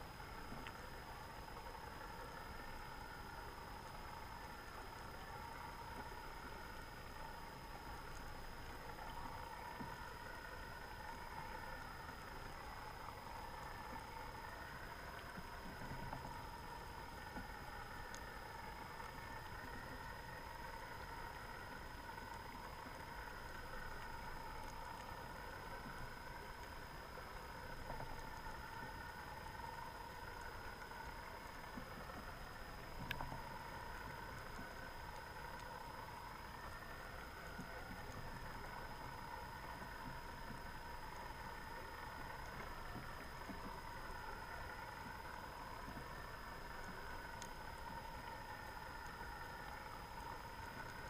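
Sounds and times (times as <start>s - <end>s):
underwater boat engine idling: 0.0s - 51.0s.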